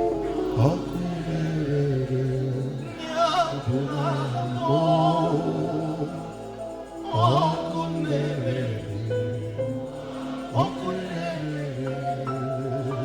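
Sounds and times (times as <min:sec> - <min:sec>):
low sustained tones: 0:00.0 - 0:13.0
person singing with vibrato: 0:00.0 - 0:13.0.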